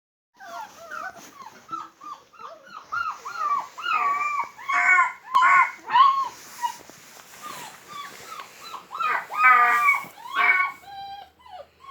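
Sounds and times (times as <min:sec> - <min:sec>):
puppies whimpering and squealing: 0:00.4 - 0:11.9.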